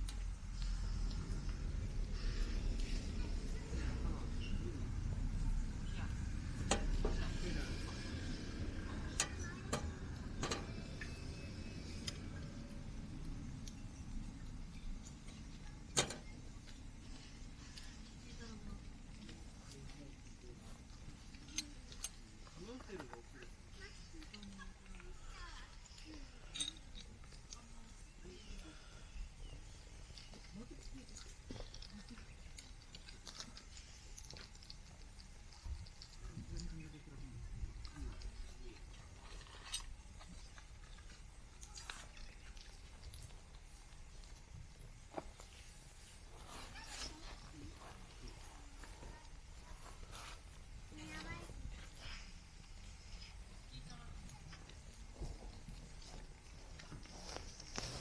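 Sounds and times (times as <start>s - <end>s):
campfire crackling: 0.0s - 58.0s
low steady rumble: 0.0s - 58.0s.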